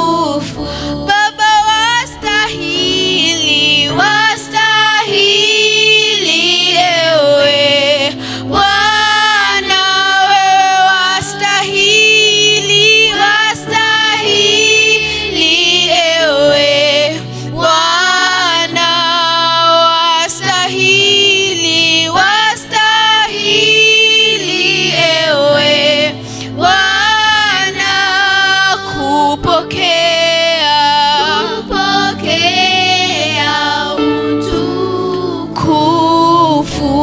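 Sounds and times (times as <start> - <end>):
children singing along: 0.0 - 37.0
woman singing into microphone: 0.0 - 37.0.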